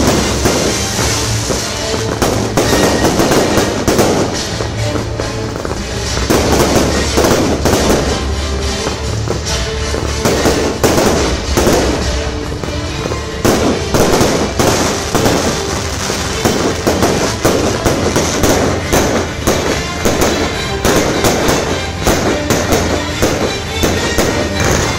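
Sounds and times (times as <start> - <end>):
fireworks bangs: 0.0 - 24.9.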